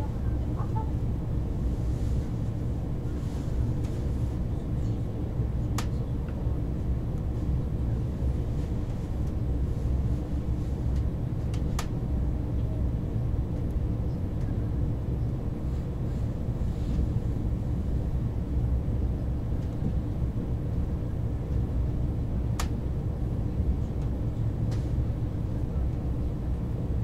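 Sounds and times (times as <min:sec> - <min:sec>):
train rumble inside carriage: 0:00.0 - 0:27.0.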